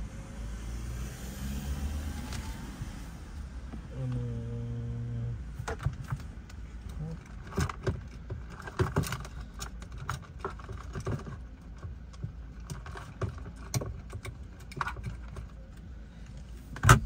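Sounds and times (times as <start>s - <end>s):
low car cabin rumble: 2.3s - 17.0s.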